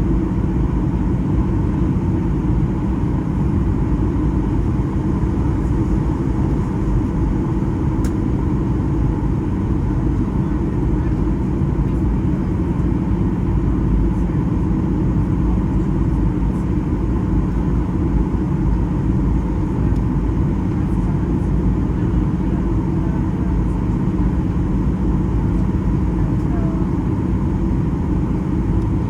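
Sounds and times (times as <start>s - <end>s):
airliner cabin engine hum: 0.0s - 29.0s.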